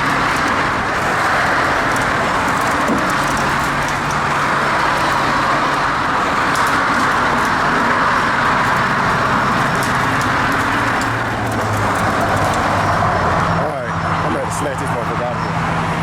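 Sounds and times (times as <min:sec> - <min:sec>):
steady rushing noise: 0:00.0 - 0:16.0
truck engine running under load: 0:00.0 - 0:16.0.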